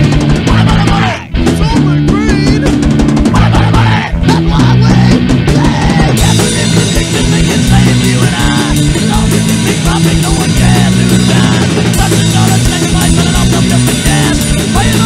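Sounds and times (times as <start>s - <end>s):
punk rock song: 0.0s - 15.0s.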